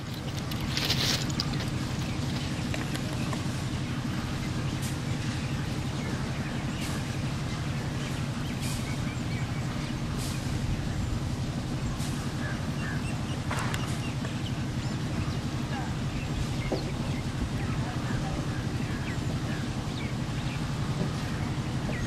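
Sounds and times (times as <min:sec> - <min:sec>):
diesel locomotive engine roaring: 0:00.0 - 0:22.0.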